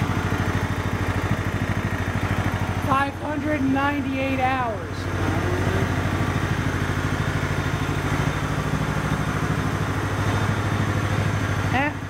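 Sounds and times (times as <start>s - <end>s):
riding mower engine idling: 0.0s - 12.0s.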